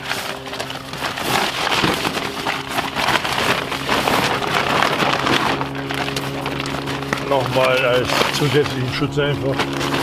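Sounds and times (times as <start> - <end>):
groundsheet rustling and crackling: 0.0 - 10.0.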